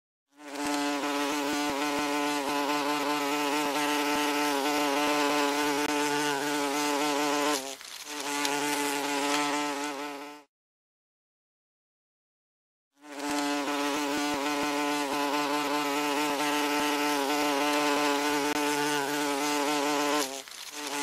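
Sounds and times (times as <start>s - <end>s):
wasp wings buzzing: 0.3s - 10.5s, 13.0s - 21.0s.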